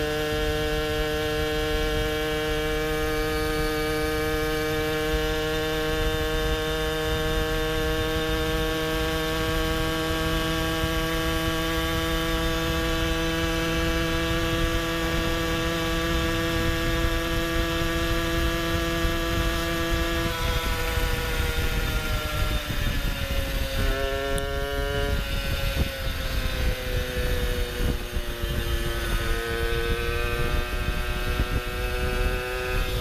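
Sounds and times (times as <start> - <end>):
moped engine droning at high revs: 0.0 - 33.0
wind rumble on microphone: 0.0 - 33.0.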